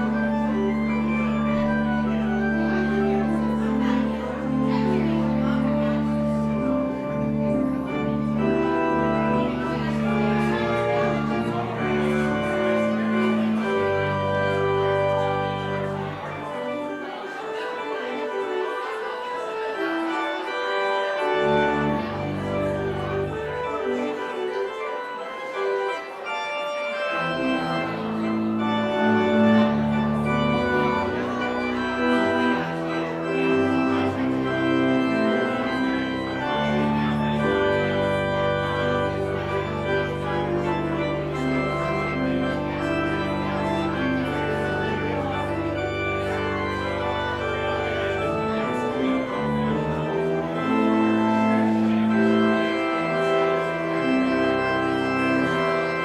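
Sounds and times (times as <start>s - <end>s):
held organ bass note: 0.0s - 18.0s, 18.8s - 56.0s
organ chords: 0.0s - 56.0s.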